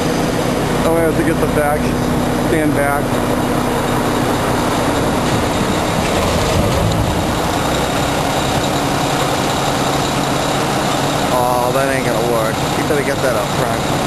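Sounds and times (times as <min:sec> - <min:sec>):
heavy machinery rumbling and grinding: 0:00.0 - 0:14.0
metal scraping: 0:00.6 - 0:14.0.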